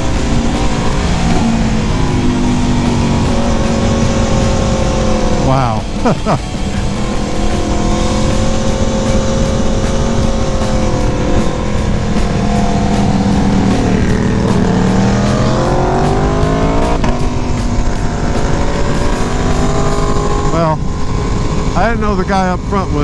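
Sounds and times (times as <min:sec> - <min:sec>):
motorcycle engine accelerating: 0:00.0 - 0:23.0
wind noise: 0:00.0 - 0:23.0.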